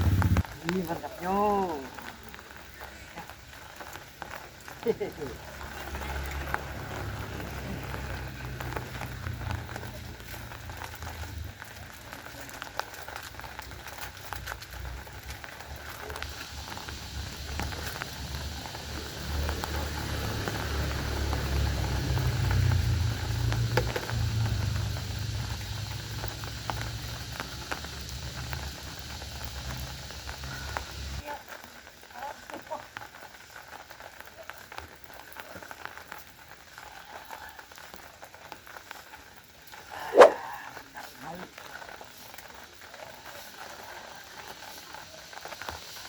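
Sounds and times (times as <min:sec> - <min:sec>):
pot boiling and bubbling: 0:00.0 - 0:46.0
scattered crackles: 0:00.0 - 0:46.0.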